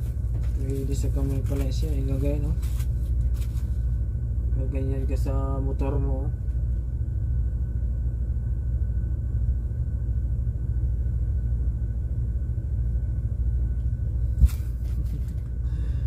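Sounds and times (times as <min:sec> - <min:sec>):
faint whine: 0:00.0 - 0:16.0.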